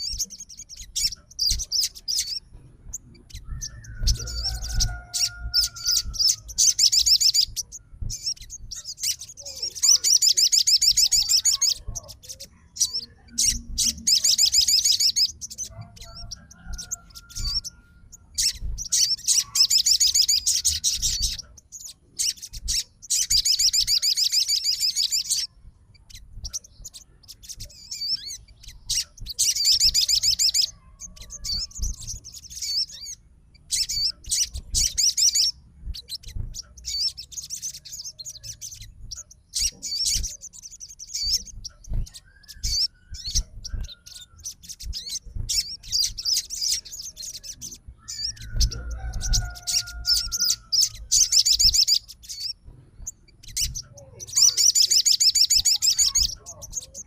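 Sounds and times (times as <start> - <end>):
bird trilling and warbling: 0.0 - 57.0.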